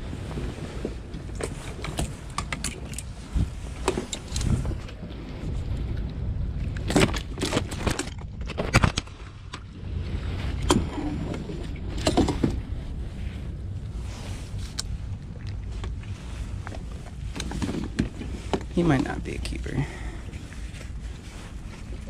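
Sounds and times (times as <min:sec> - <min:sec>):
wind and water rumble: 0:00.0 - 0:22.0.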